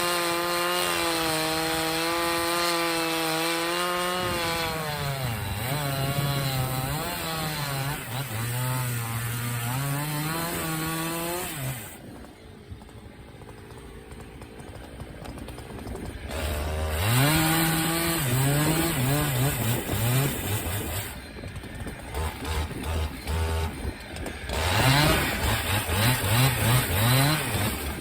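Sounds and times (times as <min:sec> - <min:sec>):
chainsaw cutting log: 0:00.0 - 0:28.0.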